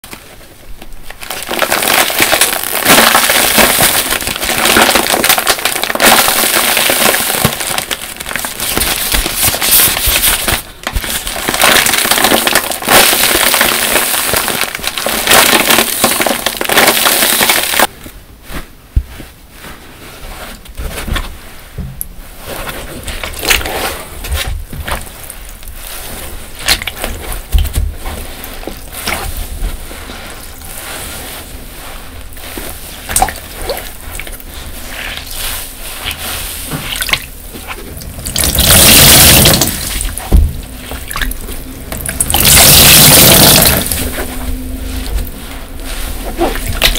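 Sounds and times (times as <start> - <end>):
sponges squishing in soapy water: 0.0 - 21.6, 22.2 - 46.9
plastic wrap crinkling: 0.0 - 46.9.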